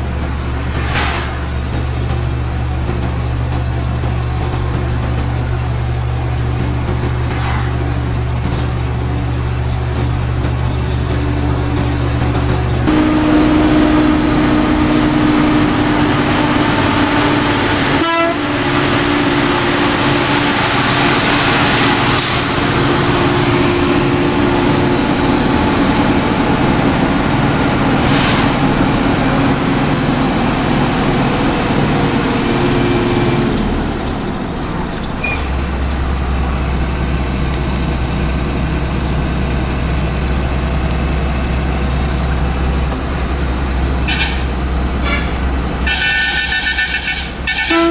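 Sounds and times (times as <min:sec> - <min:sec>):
road noise: 0:00.0 - 0:47.9
truck engine running under load: 0:00.0 - 0:47.9.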